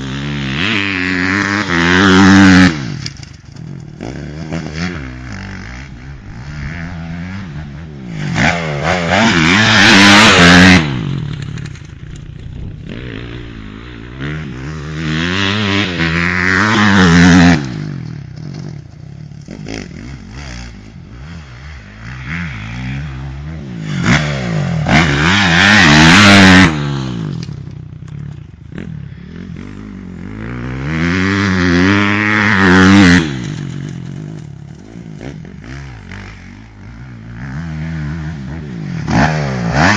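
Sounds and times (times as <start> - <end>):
motocross bike revving: 0.0 - 39.9.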